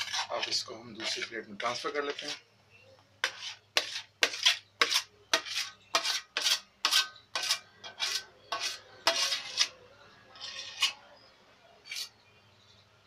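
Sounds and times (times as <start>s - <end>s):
spatula scraping steel bowl: 0.0s - 2.5s, 3.2s - 12.3s.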